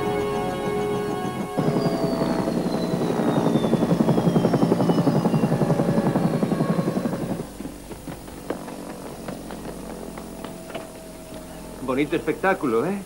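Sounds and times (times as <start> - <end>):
helicopter rotor chop: 0.0 - 13.0
turbine whine falling in pitch: 0.0 - 13.0.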